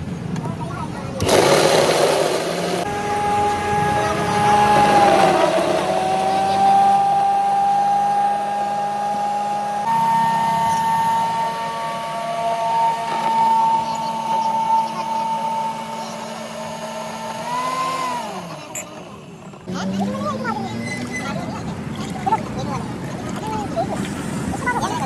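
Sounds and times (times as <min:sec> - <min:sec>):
blender motor whining: 0:01.2 - 0:21.4.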